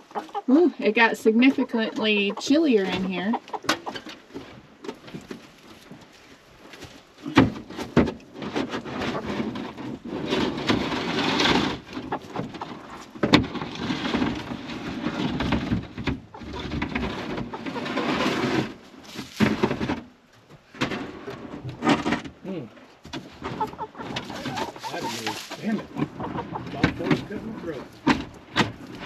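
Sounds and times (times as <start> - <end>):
rough scraping and rustling: 0.0 - 29.0.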